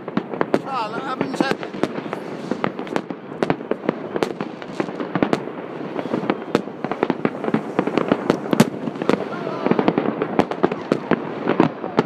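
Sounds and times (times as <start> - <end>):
fireworks bangs and pops: 0.0 - 12.0
rumble of firework bursts: 0.0 - 12.0.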